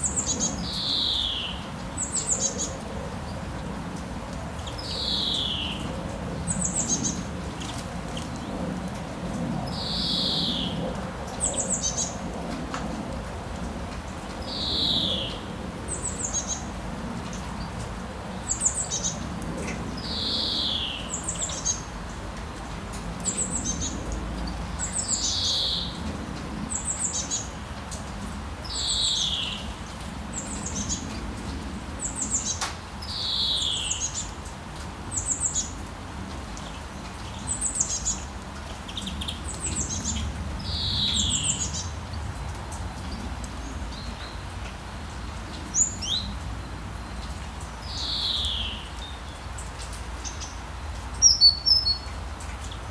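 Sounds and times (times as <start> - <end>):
rain hiss: 0.0 - 52.9.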